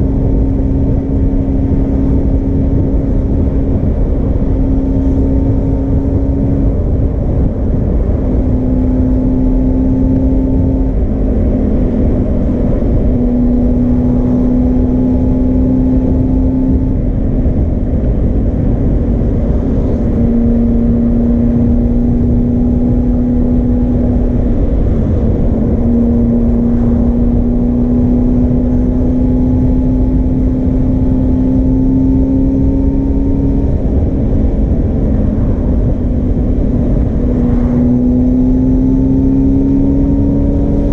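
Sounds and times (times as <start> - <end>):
motorcycle engine droning: 0.0 - 40.9
rush of noise: 0.0 - 40.9.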